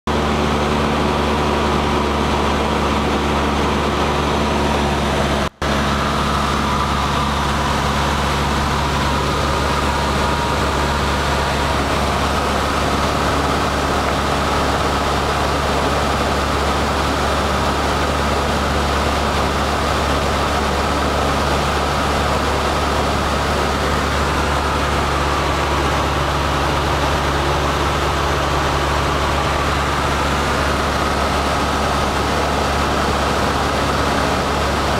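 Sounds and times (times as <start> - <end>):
propeller aircraft engine droning: 0.1 - 34.9.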